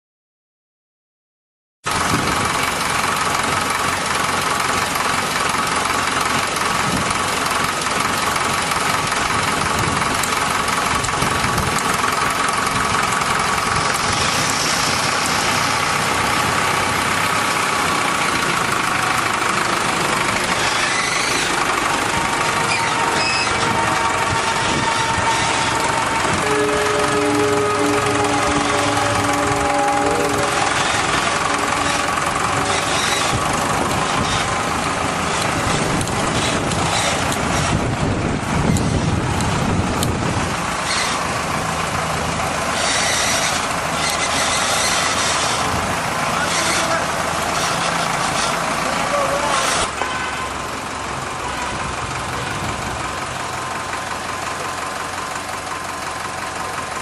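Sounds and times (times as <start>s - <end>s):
tractor engine running: 1.9s - 57.0s.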